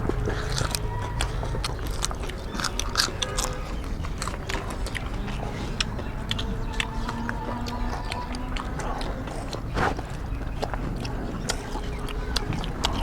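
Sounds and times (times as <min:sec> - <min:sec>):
eating clicks: 0:00.0 - 0:13.0
wet chewing and lip smacks: 0:00.0 - 0:13.0.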